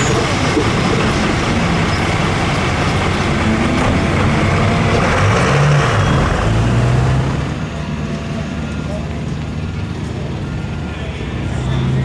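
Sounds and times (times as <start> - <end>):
pulling vehicle engine running hard: 0.0 - 12.0.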